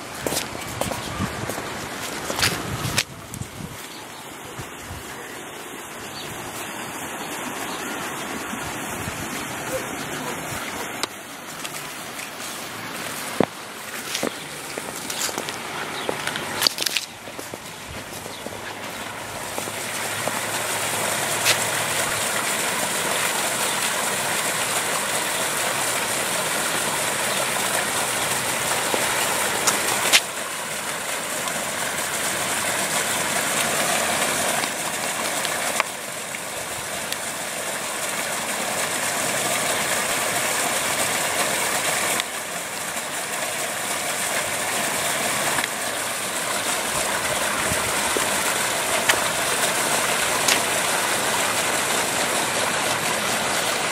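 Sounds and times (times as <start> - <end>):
water splashing down small waterfall: 0.0 - 53.9.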